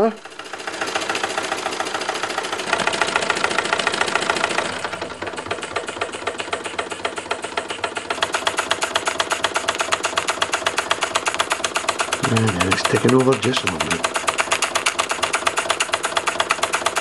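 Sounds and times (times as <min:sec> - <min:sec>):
toy steam engine puffing: 0:00.0 - 0:17.0.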